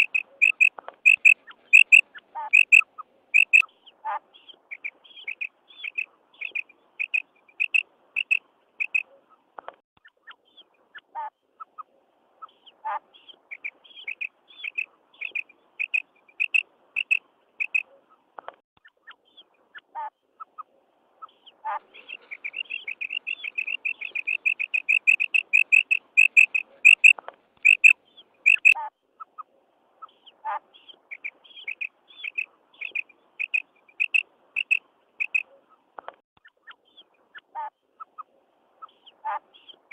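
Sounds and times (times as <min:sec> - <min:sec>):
quail chirping call: 0:00.0 - 0:09.2, 0:10.5 - 0:18.0, 0:19.3 - 0:35.7.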